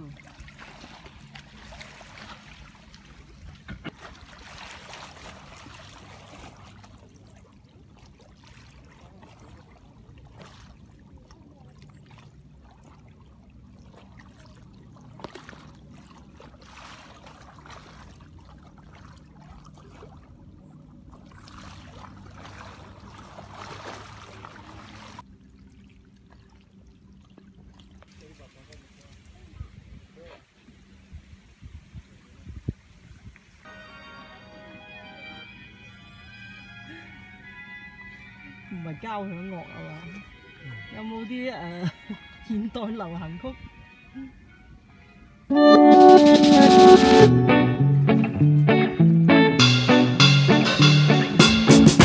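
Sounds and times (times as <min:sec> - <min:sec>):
small waves lapping on shore: 0:00.0 - 0:34.9, 0:36.6 - 0:45.5.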